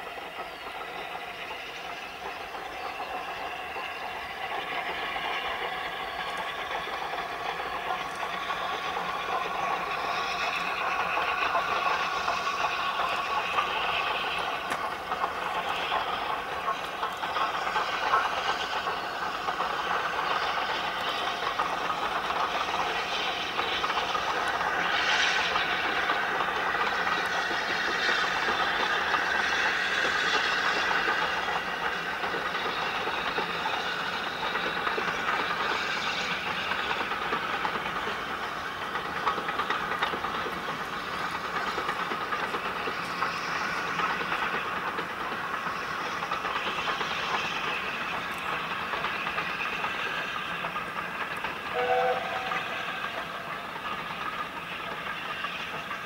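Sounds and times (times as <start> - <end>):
steam locomotive exhaust: 0.0 - 56.0
train rolling: 0.0 - 56.0.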